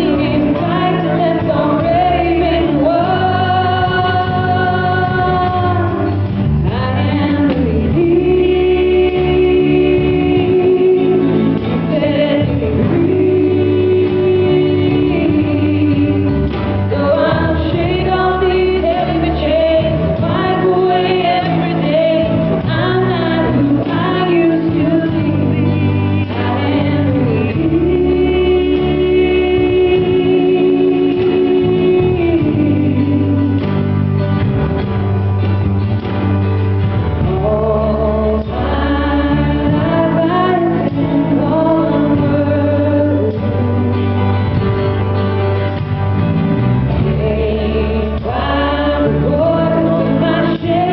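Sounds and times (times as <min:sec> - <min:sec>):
gospel choir singing: 0:00.0 - 0:35.0, 0:36.8 - 0:50.9
instrumental accompaniment: 0:00.0 - 0:50.9
steady bass line: 0:00.0 - 0:50.9.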